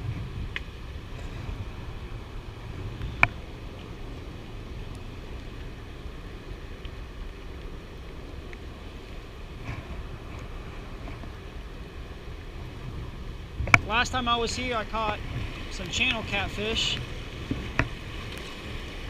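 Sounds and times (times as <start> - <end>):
river water rushing: 0.0 - 19.0
wind buffeting microphone: 0.0 - 19.0.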